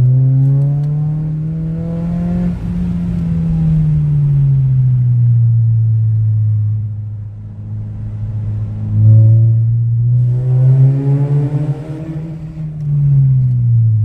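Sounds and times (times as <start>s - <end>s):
car exhaust droning with throttle blips: 0.0s - 14.0s.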